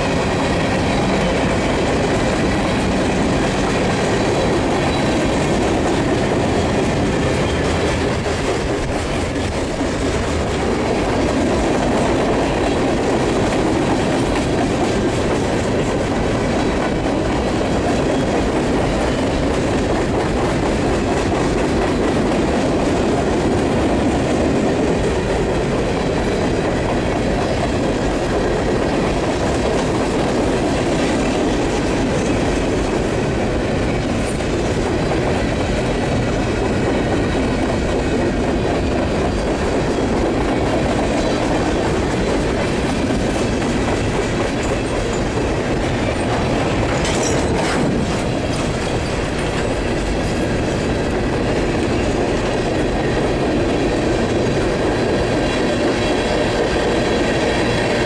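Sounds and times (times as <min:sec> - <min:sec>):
train wheels running on rails: 0:00.0 - 0:58.0.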